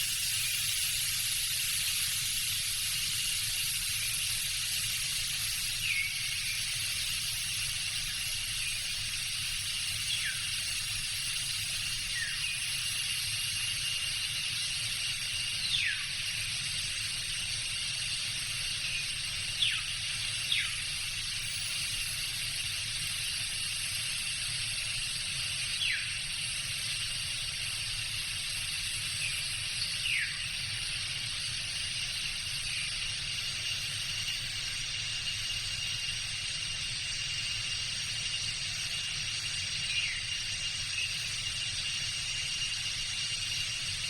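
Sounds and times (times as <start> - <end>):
constant thin tone: 0.0 - 44.0
insect drone: 0.0 - 44.0.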